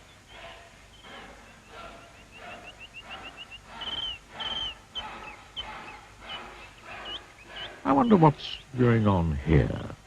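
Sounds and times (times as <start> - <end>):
birds chirping and trilling: 0.0 - 10.0.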